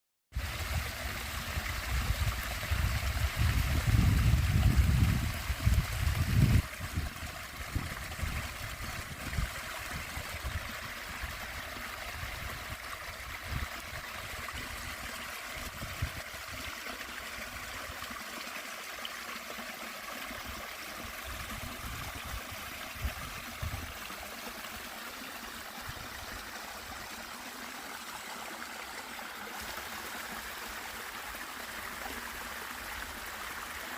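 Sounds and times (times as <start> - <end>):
stream flowing: 0.4 - 33.9.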